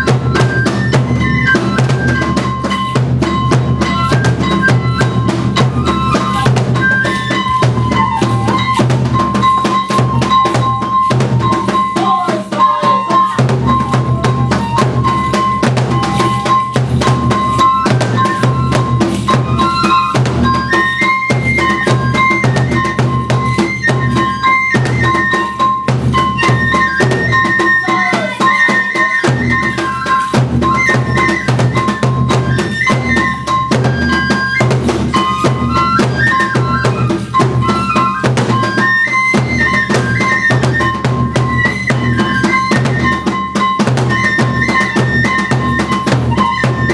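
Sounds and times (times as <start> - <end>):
taiko drums beating: 0.0 - 46.9
transverse flute melody: 0.0 - 46.9.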